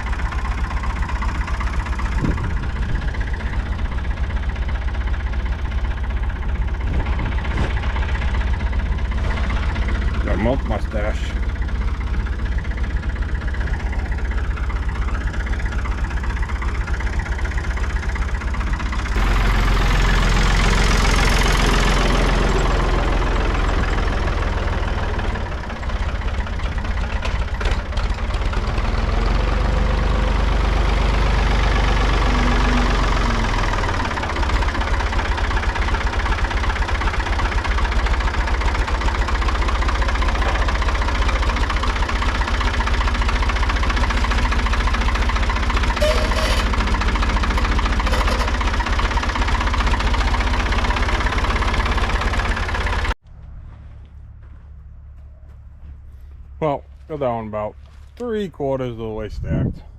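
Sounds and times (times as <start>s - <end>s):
tractor engine running: 0.0s - 59.5s.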